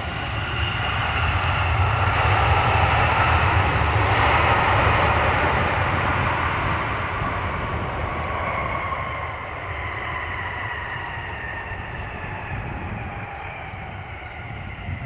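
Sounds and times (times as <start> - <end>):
jet engines passing: 0.0 - 15.0.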